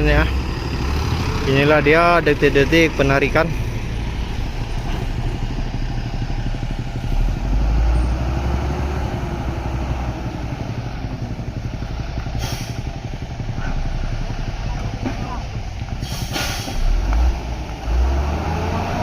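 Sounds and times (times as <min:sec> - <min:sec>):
diesel truck engine labouring: 0:00.0 - 0:19.0.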